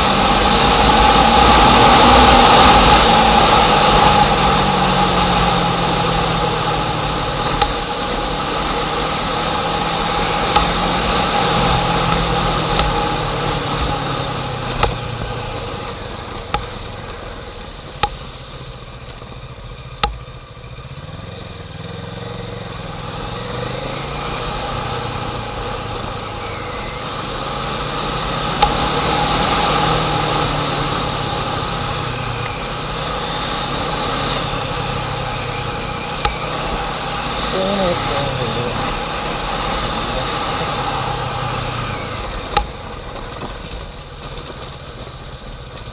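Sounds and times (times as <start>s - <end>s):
motor engine running: 0.0s - 45.9s.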